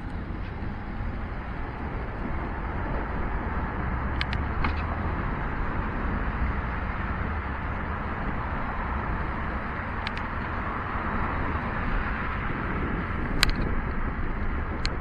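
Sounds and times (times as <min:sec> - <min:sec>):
cars on a wet road: 0:00.0 - 0:15.0.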